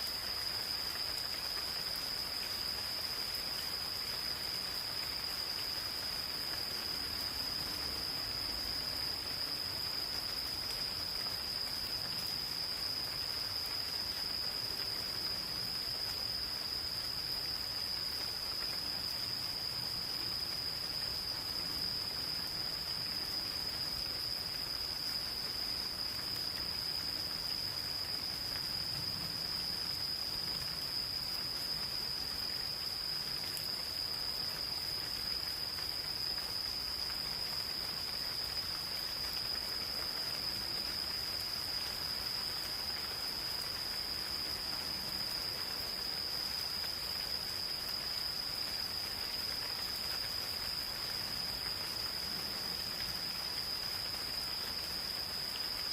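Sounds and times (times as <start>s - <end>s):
gentle rain patter: 0.0s - 55.9s
insects trilling: 0.0s - 55.9s.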